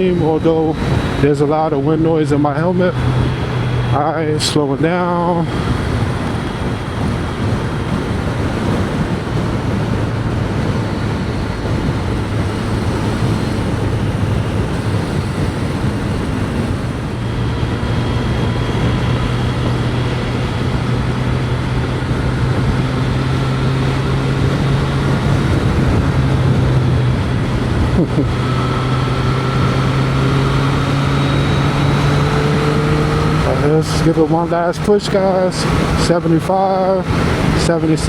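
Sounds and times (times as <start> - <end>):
heavy wind noise: 0.0 - 38.0
motorcycle engine at speed: 0.0 - 38.0.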